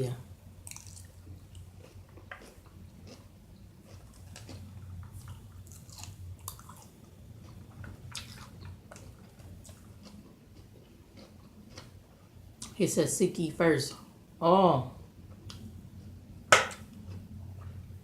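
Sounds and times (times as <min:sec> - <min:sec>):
low steady hum: 0:00.0 - 0:18.0
person chewing: 0:00.6 - 0:12.7, 0:15.3 - 0:17.9.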